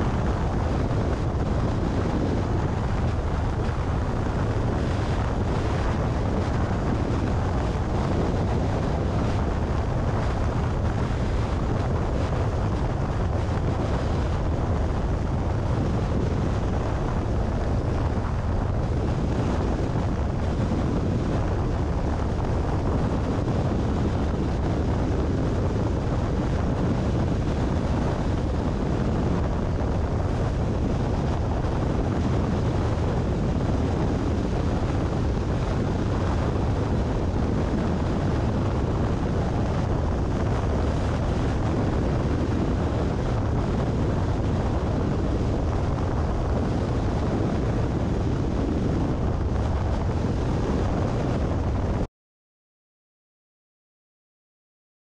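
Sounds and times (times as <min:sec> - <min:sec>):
car tyre and road noise: 0:00.0 - 0:51.9
wind noise on microphone: 0:00.0 - 0:52.1.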